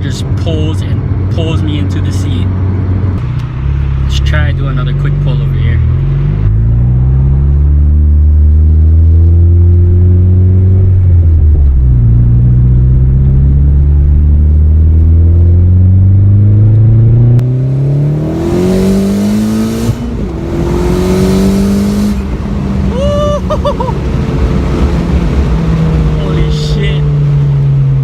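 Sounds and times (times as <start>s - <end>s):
car engine accelerating hard: 2.0s - 28.0s.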